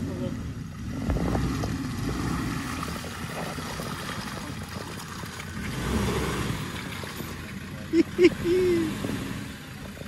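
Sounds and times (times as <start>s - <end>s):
diesel engine at low revs: 0.0s - 10.0s
tyres squelching and splashing in mud: 0.0s - 10.0s.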